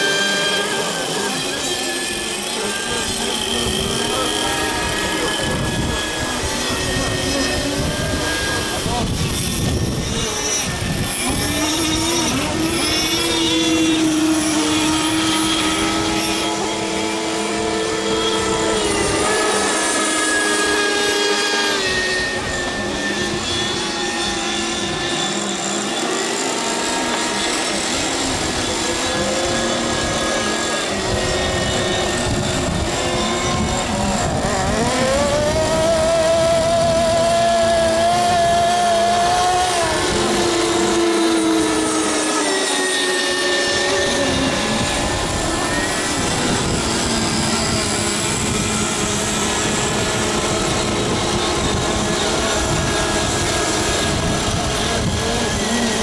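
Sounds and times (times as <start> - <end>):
model boat engines whining: 0.0 - 56.0.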